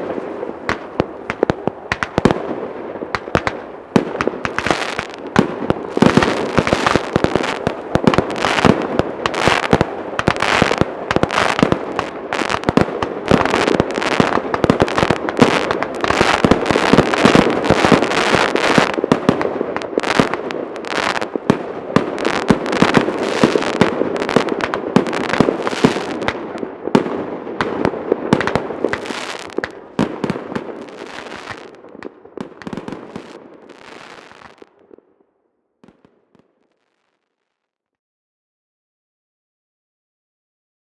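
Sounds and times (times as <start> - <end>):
fireworks bangs: 0.0 - 34.7.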